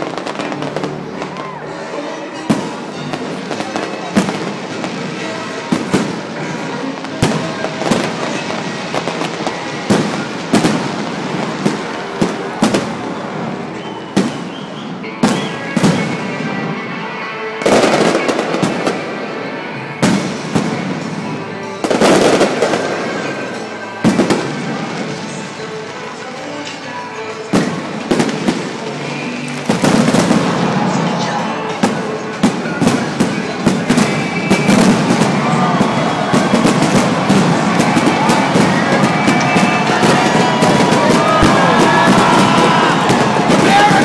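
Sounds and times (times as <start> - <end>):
firework crackling: 0.0 - 44.0.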